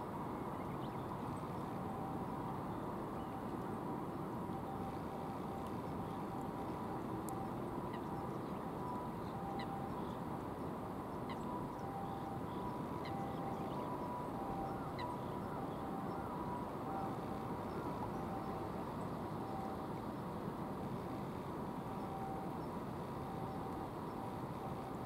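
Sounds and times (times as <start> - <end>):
low background rush: 0.0 - 25.0.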